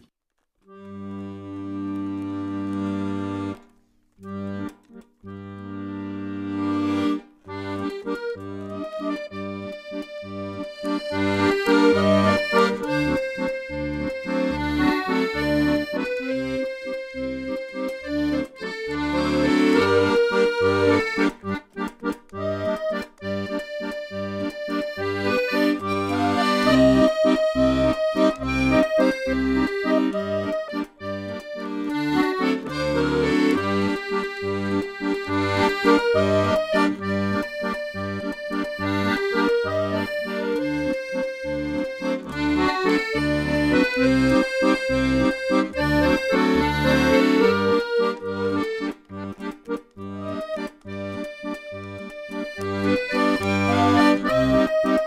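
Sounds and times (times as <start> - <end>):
accordion waltz: 0.6 - 55.0.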